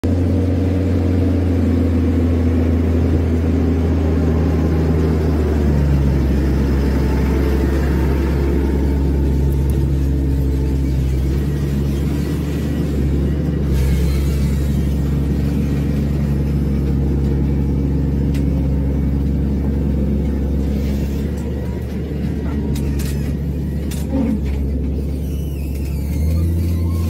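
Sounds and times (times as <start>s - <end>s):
tractor engine running under load: 0.0s - 27.0s.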